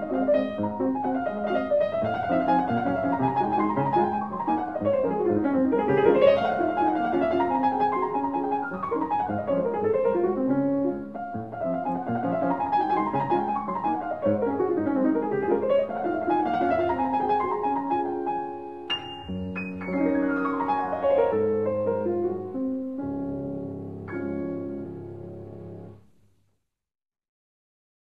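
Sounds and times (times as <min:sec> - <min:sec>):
piano music: 0:00.0 - 0:26.1.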